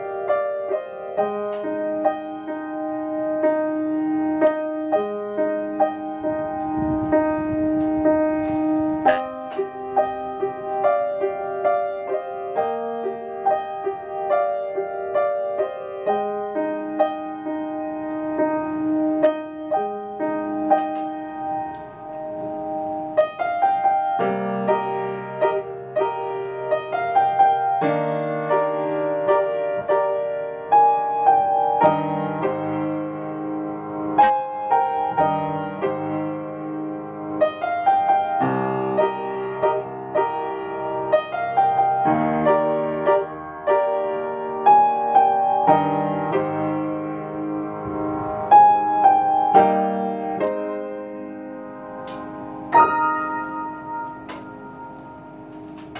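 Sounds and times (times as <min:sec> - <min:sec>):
upright piano playing: 0:00.0 - 0:55.9.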